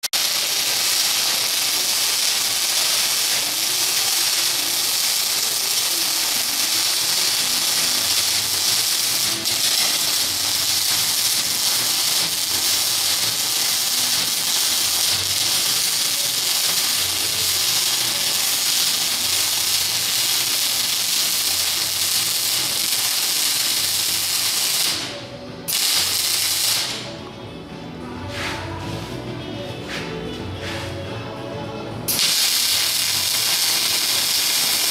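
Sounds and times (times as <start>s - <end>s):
welding arc crackling and hissing: 0.0s - 27.1s, 32.1s - 34.9s.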